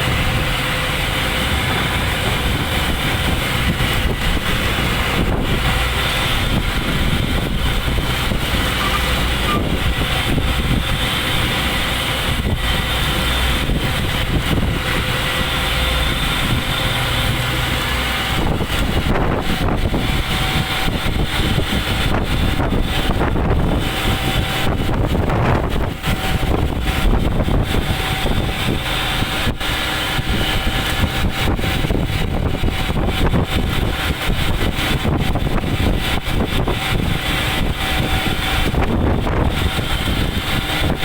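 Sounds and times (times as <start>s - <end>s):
ship engine humming: 0.0s - 41.0s
wind and sea rushing: 0.0s - 41.0s.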